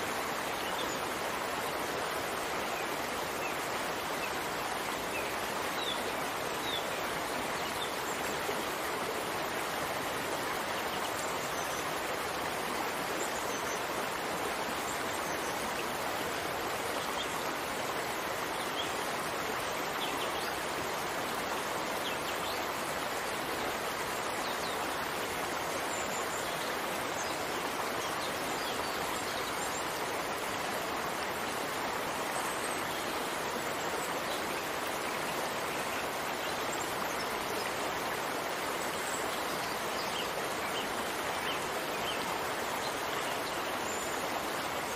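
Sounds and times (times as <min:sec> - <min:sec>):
steady rain hiss: 0:00.0 - 0:44.9.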